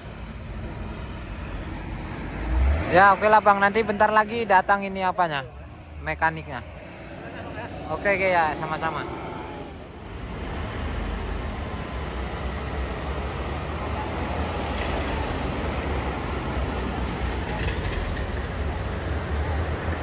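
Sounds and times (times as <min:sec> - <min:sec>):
road noise: 0:00.0 - 0:20.0
truck engine rumbling: 0:00.0 - 0:20.0.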